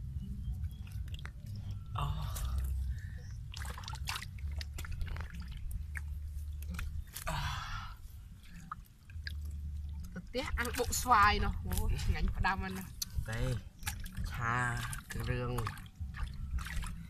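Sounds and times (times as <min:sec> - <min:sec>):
steady low rumble: 0:00.0 - 0:17.0
wet splashes and mud squelches: 0:00.4 - 0:17.0.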